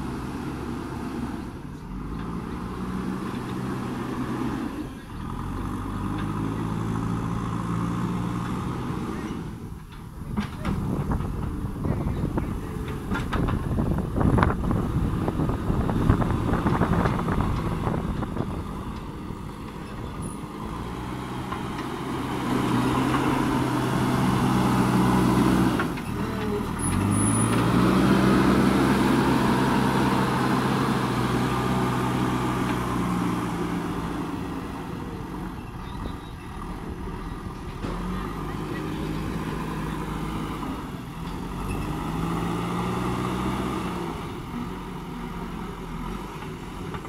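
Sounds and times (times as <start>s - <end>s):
diesel engine working under load: 0.0s - 47.0s.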